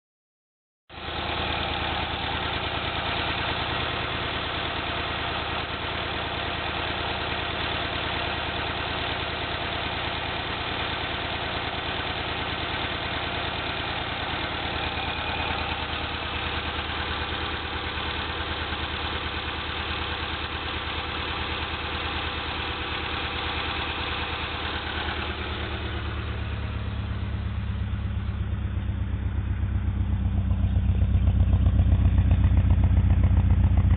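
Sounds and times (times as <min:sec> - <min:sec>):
car engine idling roughly: 0:00.9 - 0:33.9.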